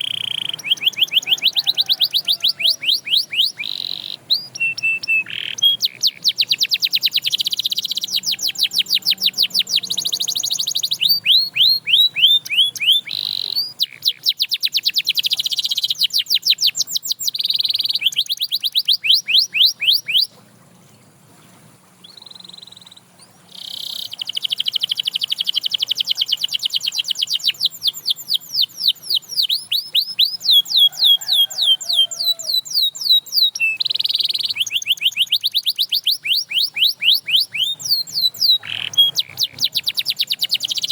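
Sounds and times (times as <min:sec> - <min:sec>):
canary singing trills: 0:00.0 - 0:21.1, 0:22.0 - 0:40.9.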